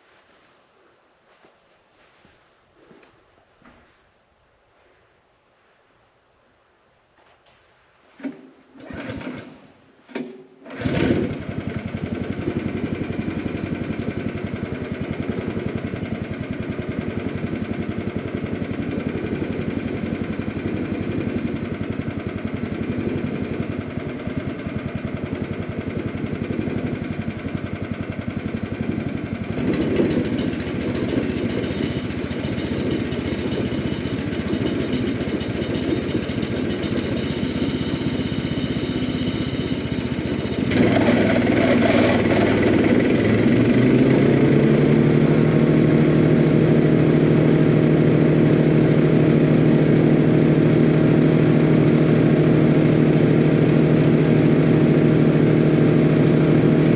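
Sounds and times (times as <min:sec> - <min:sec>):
engine starting and running: 0:08.2 - 0:56.9.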